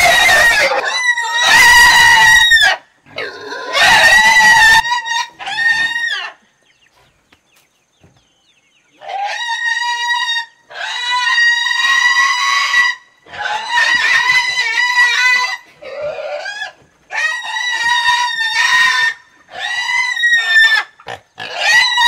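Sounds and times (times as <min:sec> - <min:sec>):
pig squealing: 0:00.0 - 0:06.4, 0:09.0 - 0:22.0.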